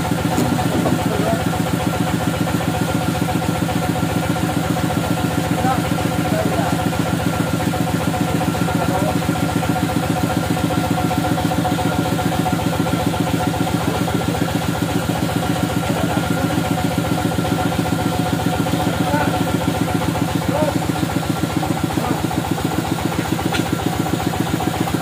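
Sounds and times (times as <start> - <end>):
sawmill engine idling: 0.0 - 25.0.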